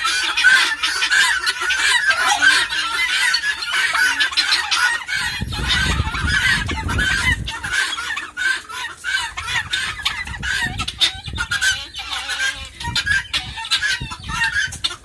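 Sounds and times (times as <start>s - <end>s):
guinea fowl and turkeys calling: 0.0s - 15.0s.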